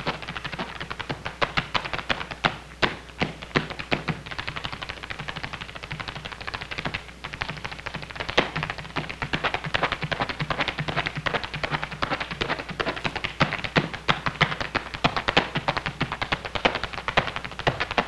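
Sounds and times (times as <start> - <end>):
tap shoe clicks and stamps: 0.0 - 18.0.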